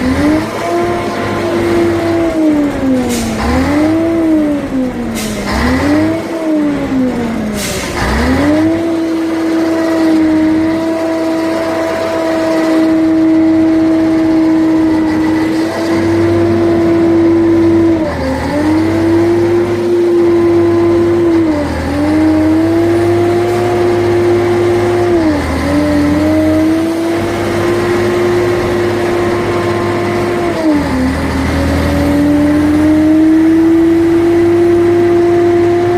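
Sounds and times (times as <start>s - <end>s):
truck diesel engine revving: 0.0s - 35.9s.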